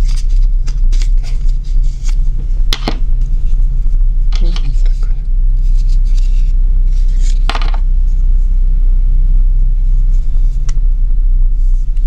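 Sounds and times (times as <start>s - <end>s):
loud low hum: 0.0s - 12.0s.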